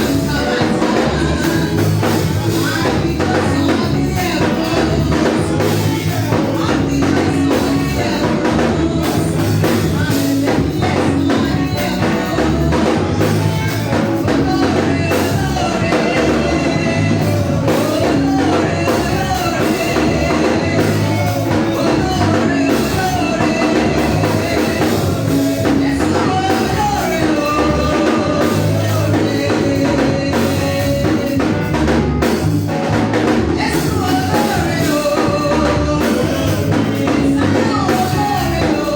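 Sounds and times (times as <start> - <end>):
band playing praise music: 0.0 - 38.9
person singing: 0.0 - 38.9.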